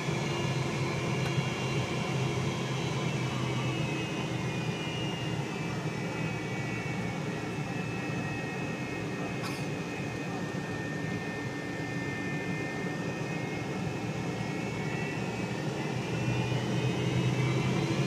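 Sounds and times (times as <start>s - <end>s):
airliner cabin engine hum: 0.0s - 18.0s
high steady engine whine: 0.0s - 18.0s.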